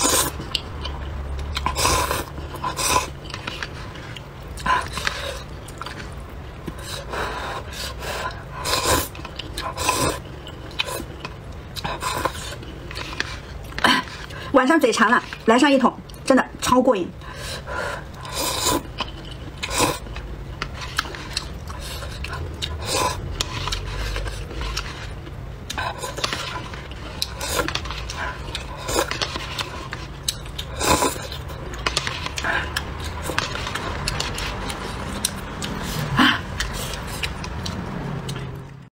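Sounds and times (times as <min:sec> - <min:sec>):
slurping and chewing noodles: 0:00.0 - 0:14.5, 0:17.2 - 0:38.8.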